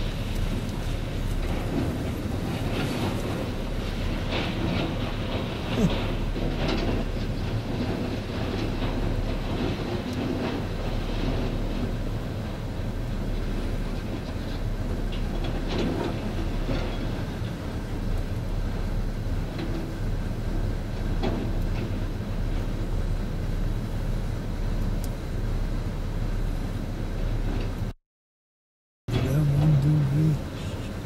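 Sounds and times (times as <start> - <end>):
diesel demolition machinery rumbling: 0.0 - 27.9, 29.1 - 31.0.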